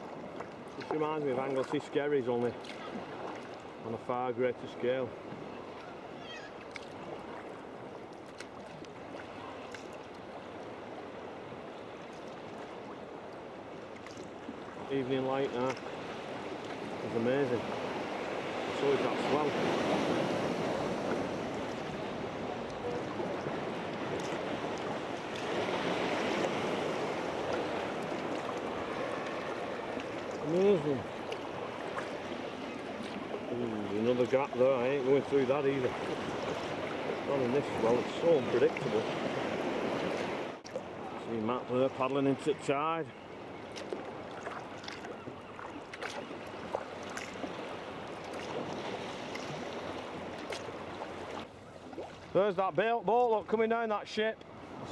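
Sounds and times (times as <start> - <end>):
sea swell washing around kayak: 0.0 - 52.5
paddle splashes and drips: 0.0 - 53.8.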